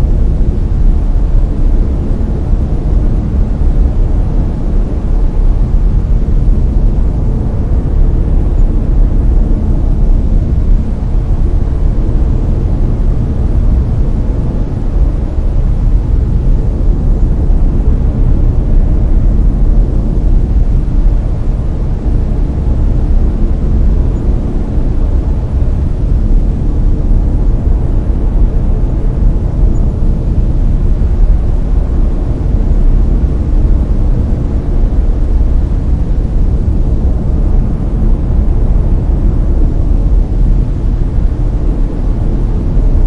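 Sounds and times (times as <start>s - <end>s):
deep rumbling brown noise: 0.0s - 43.0s.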